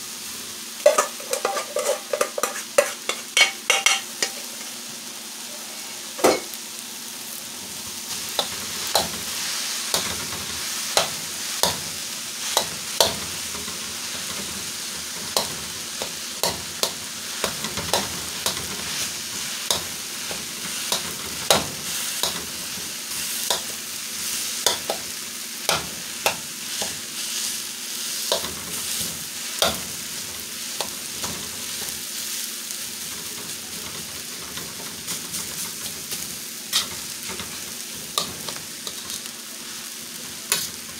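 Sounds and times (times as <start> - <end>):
rice sizzling in a wok: 0.0 - 40.9
spatula scraping a wok: 0.8 - 4.7, 8.0 - 40.9.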